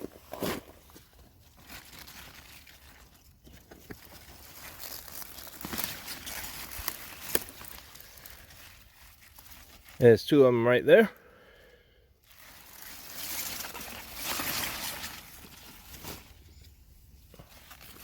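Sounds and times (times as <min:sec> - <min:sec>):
leaves and soil rustling: 0:00.0 - 0:11.6, 0:12.2 - 0:18.0.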